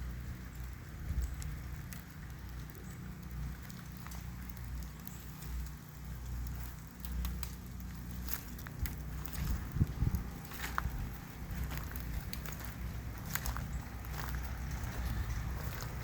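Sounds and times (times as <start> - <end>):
light ticks and patters: 0.0 - 16.0
wind rumbling on microphone: 0.0 - 16.0.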